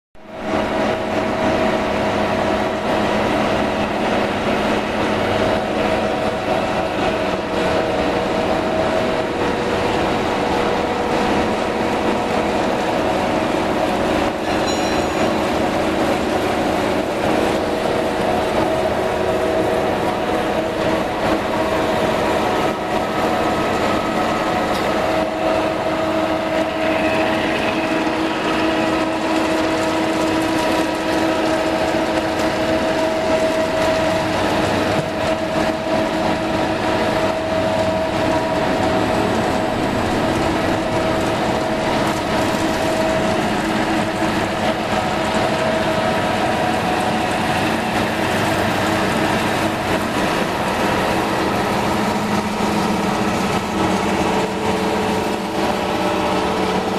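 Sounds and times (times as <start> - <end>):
drilling machine hum and whine: 0.2 - 56.9.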